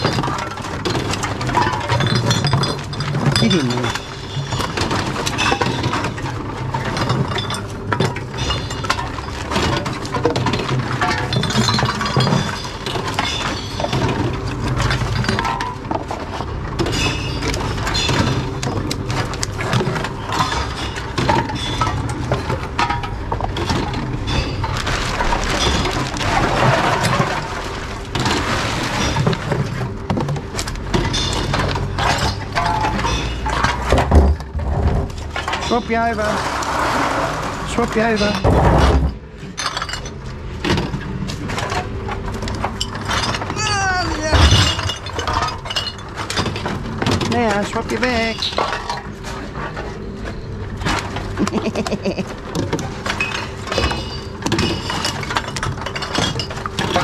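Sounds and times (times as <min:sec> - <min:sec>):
glass breaking inside machine: 0:00.0 - 0:49.8, 0:50.8 - 0:57.0
glass bottles clinking: 0:00.0 - 0:50.1, 0:50.8 - 0:57.0.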